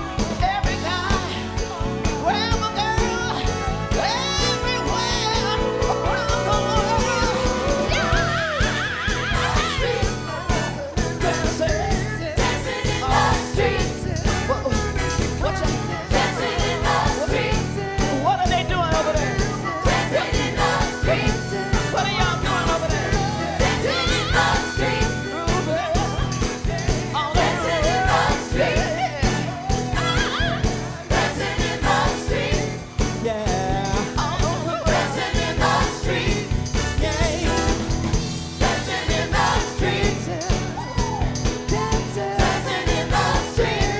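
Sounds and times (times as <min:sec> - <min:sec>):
group of singers: 0:00.0 - 0:43.9
live soul band: 0:00.0 - 0:43.9
steady drum beat: 0:00.0 - 0:43.9.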